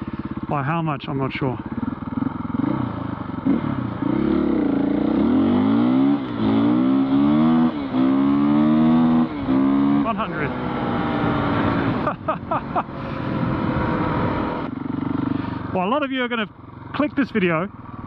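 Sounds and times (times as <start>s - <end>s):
dirt bike engine accelerating: 1.6s - 18.0s.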